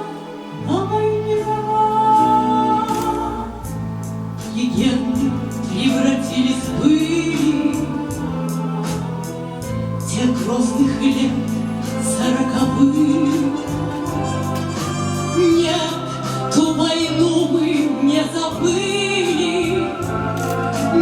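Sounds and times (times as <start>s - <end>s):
instrumental accompaniment with bass: 0.0s - 21.0s
woman singing with vibrato: 0.0s - 21.0s.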